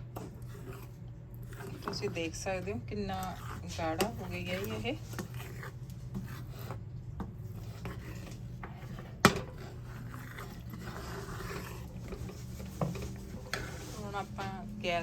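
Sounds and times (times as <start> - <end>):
low steady hum: 0.0 - 15.0
utensil scraping and stirring in pan: 0.0 - 15.0.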